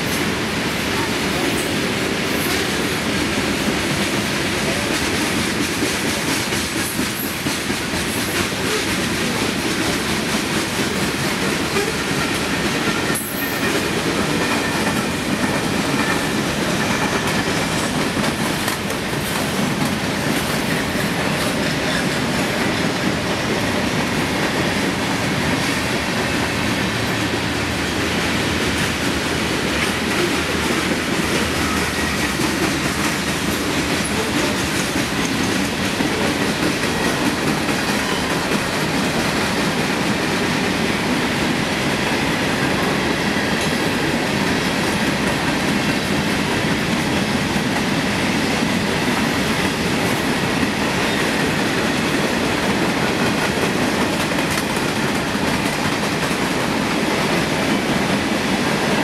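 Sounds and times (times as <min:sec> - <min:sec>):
train wheels rumbling and clattering: 0:00.0 - 0:59.0.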